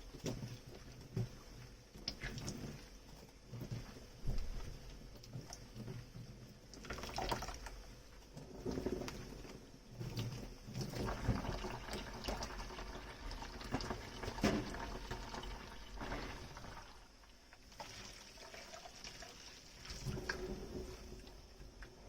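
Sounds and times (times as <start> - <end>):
tap water running and splashing: 0.2 - 22.0.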